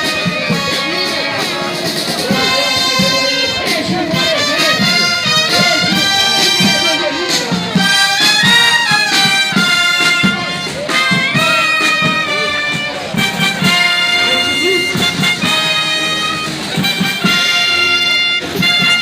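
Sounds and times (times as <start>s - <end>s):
military band playing: 0.0s - 19.0s.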